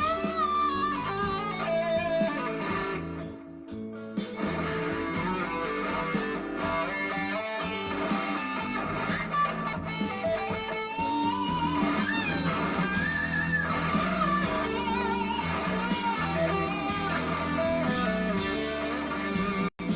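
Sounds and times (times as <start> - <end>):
electric guitar lead: 0.0 - 19.9
slow rock backing track: 0.0 - 19.9.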